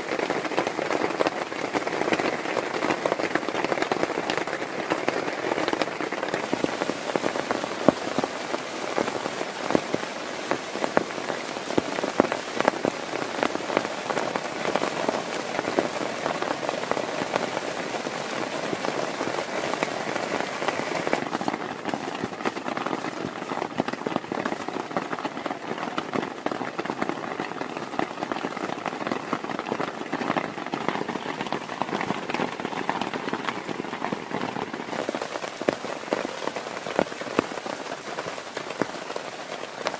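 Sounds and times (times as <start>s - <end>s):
heavy rain falling: 0.0s - 39.9s
raindrops striking close by: 0.0s - 39.9s.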